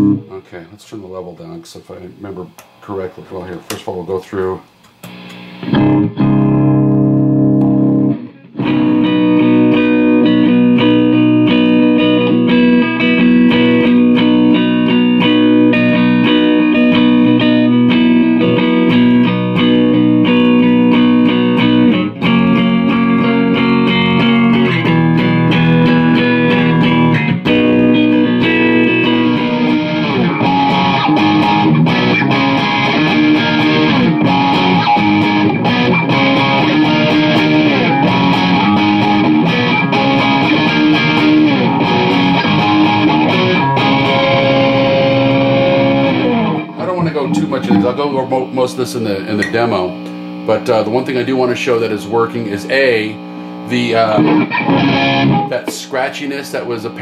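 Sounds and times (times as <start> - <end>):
electric guitar chords and riffs: 0.0 - 0.3, 5.0 - 57.0.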